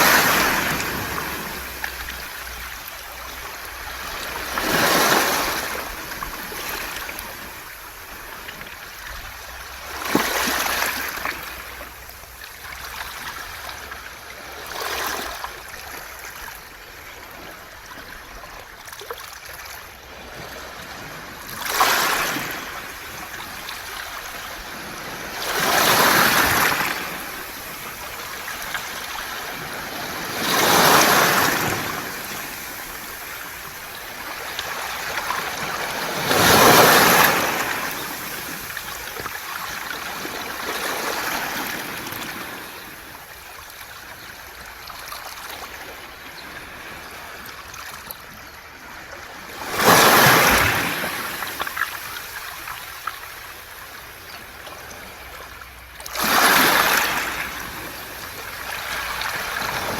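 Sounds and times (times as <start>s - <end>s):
waves surging on pebble beach: 0.0s - 18.0s, 19.3s - 48.0s, 48.9s - 59.9s.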